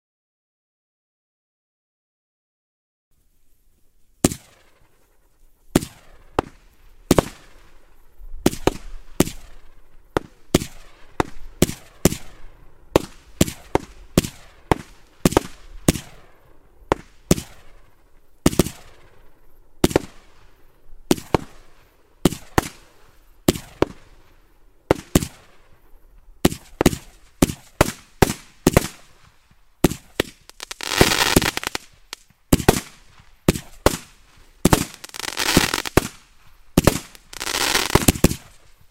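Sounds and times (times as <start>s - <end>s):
firework crackling: 3.4s - 38.9s
firework bangs and bursts: 4.2s - 38.9s.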